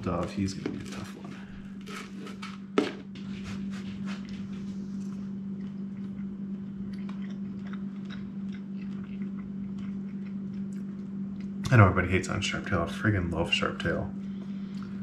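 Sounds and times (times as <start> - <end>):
steady low hum: 0.0 - 15.0
man chewing crunchy food: 0.2 - 11.8, 14.3 - 15.0.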